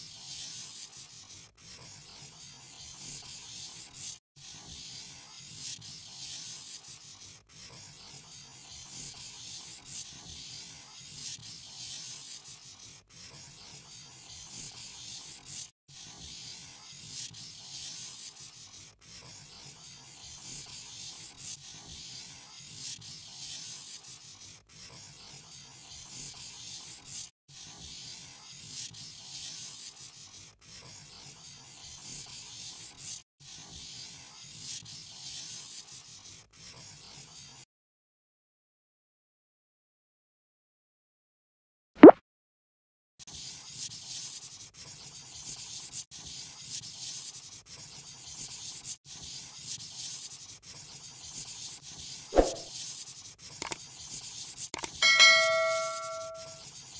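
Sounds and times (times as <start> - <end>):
drawing tool scratching paper: 0.0 - 37.6, 43.2 - 56.9.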